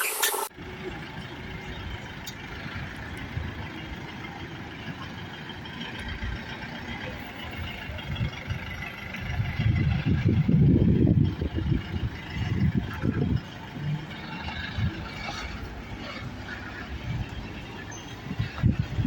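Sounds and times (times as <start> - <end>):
van engine and road rumble: 0.0 - 19.0.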